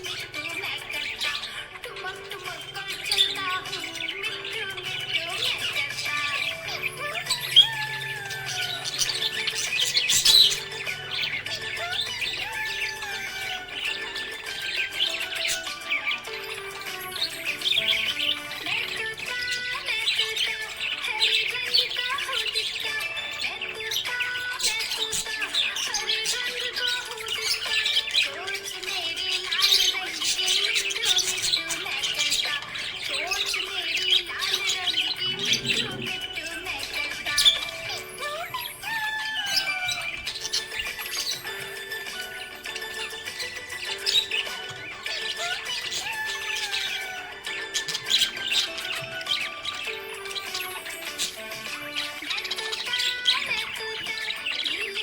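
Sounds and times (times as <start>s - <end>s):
budgerigars chirping and squawking: 0.0s - 55.0s
soft background music: 0.0s - 55.0s.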